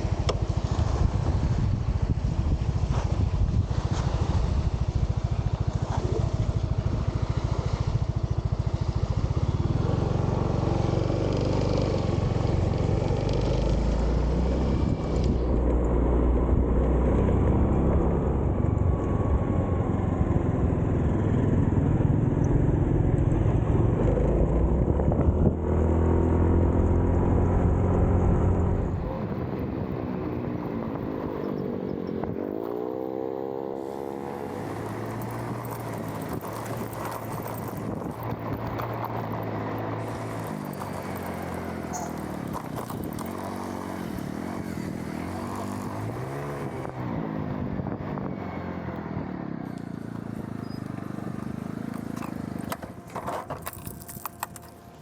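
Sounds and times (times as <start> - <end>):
wind rumble on microphone: 0.0 - 49.4
motorcycle engine running: 0.0 - 55.0.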